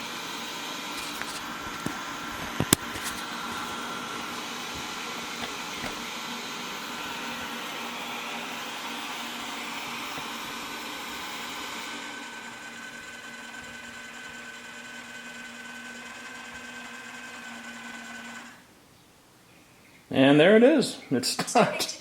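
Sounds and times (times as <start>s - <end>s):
robot vacuum whirring and whining: 0.0s - 18.6s.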